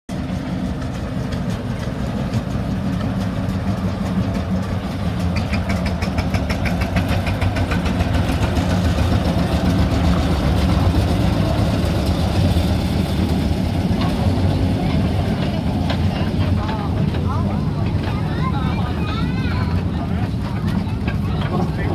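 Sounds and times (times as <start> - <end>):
locomotive engine running: 0.1 - 21.9.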